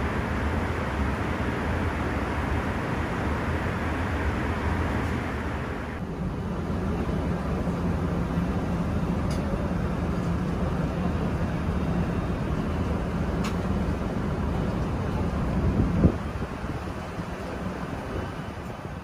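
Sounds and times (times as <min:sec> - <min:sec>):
airplane cabin engine rush: 0:00.0 - 0:19.0.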